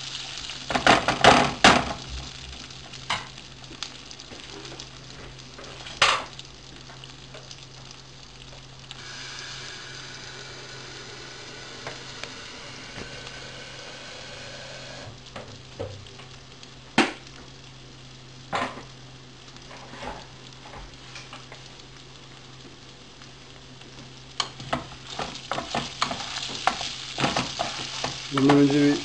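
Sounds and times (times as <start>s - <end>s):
rice sizzling in oil in a frying pan: 0.0s - 29.0s.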